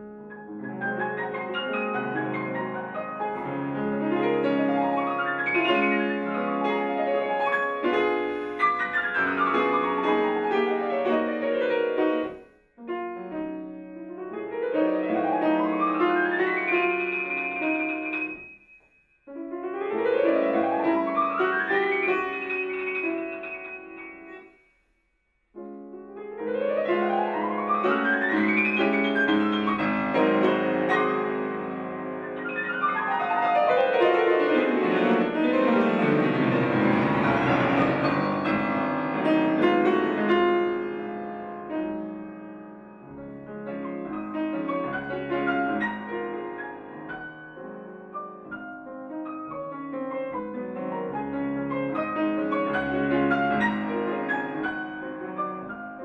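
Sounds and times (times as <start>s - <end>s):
fast classical piano playing: 0.0s - 18.7s, 19.3s - 24.5s, 25.6s - 56.0s.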